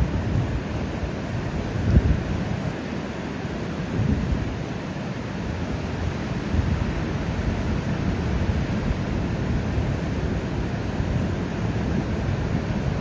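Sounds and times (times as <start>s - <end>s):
ocean surf washing on beach: 0.0s - 13.0s.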